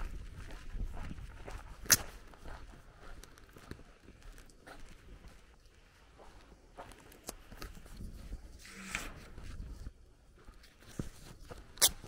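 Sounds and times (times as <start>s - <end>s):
footsteps on dirt path: 0.0s - 8.6s, 9.2s - 12.0s.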